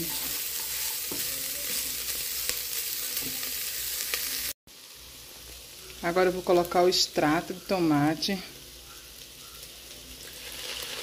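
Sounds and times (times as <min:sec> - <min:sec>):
meat and onion sizzling in oil: 0:00.0 - 0:11.0.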